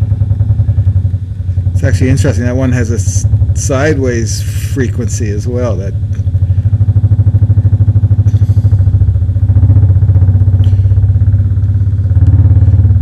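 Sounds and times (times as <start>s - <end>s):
loudspeaker pulsing low hum: 0.0s - 13.0s.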